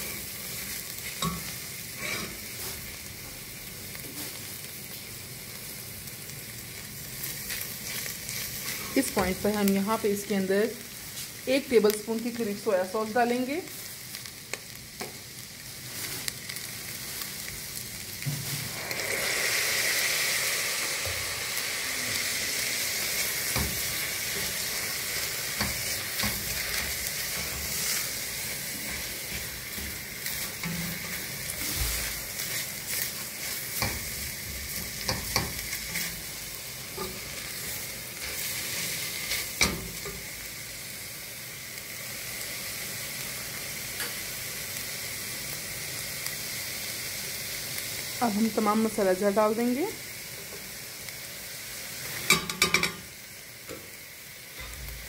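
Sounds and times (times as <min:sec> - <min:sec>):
chicken sizzling in a pot: 0:00.0 - 0:55.0.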